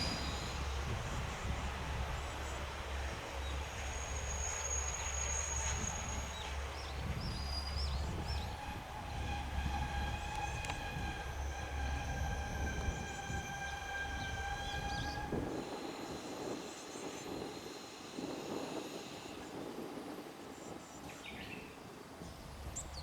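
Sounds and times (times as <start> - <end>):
diesel railcar rumbling: 0.0 - 19.9.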